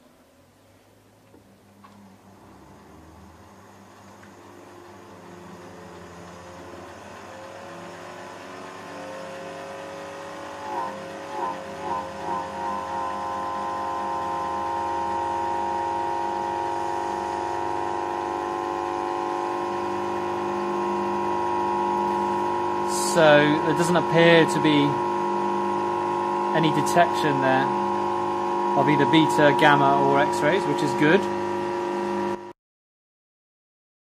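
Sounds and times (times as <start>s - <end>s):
motor and rotor mechanical whine: 1.7s - 32.5s.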